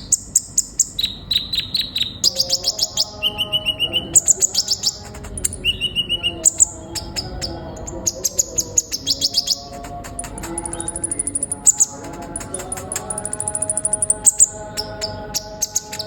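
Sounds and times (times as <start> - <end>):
sunbird chirping and trilling: 0.0 - 16.0.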